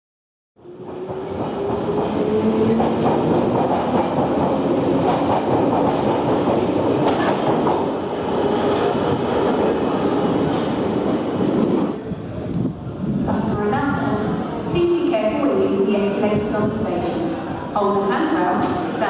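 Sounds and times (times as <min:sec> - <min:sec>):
train rumble and rail clatter: 0:00.6 - 0:19.0.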